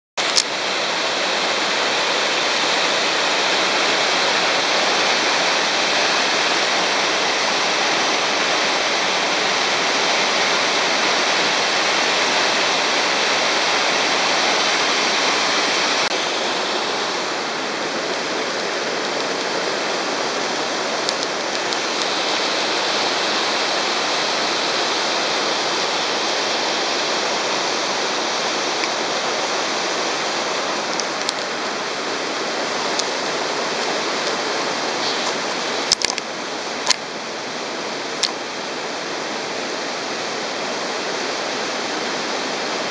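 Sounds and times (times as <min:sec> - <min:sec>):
waterfall rushing: 0:00.2 - 0:42.9.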